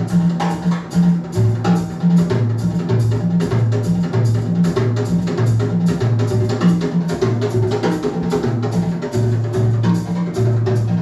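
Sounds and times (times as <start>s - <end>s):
bass line: 0.0s - 11.0s
drum kit beat: 0.0s - 11.0s.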